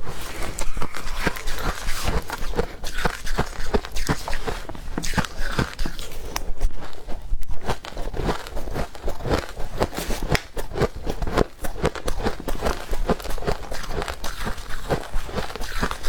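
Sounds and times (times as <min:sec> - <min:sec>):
chewing frost crunches: 0:00.1 - 0:16.0.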